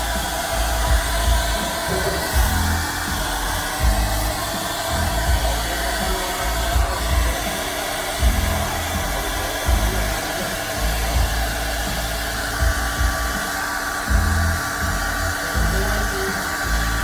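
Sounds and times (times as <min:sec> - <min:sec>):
blower motor blowing: 0:00.0 - 0:17.0
music: 0:00.0 - 0:17.0.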